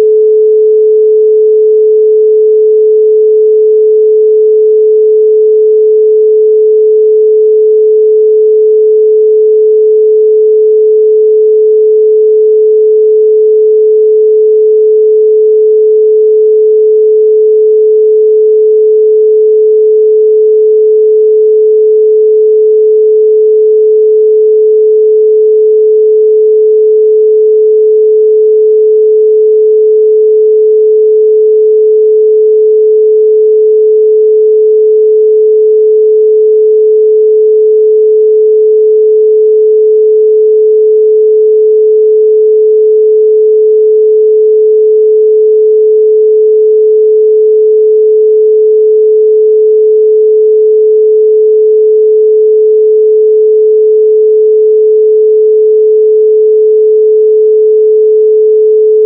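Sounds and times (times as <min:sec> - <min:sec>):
pure sine tone: 0:00.0 - 0:59.0.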